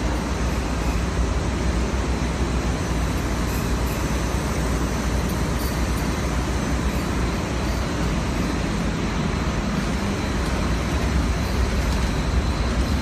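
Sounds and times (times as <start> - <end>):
machine din with low hum: 0.0 - 13.0.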